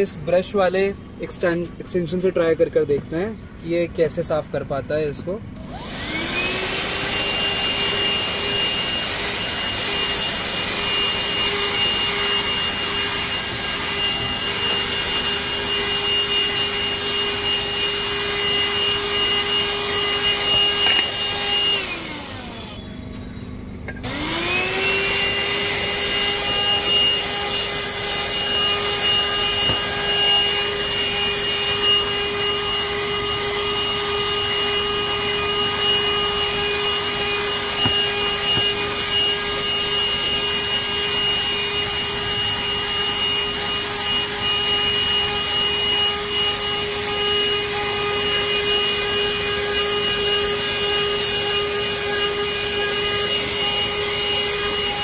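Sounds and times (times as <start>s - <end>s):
handheld vacuum cleaner whine: 5.6s - 55.0s.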